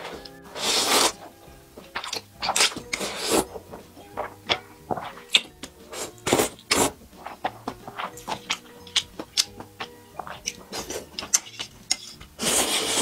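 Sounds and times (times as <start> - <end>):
person slurping noodles: 0.0 - 9.4, 10.2 - 13.0
faint background music: 0.0 - 13.0
wet chewing clicks: 0.0 - 13.0.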